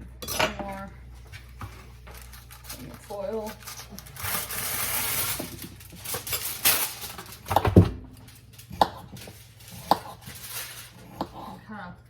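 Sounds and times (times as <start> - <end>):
aluminium foil rustling: 1.1 - 11.2
foil crinkling: 1.4 - 11.2.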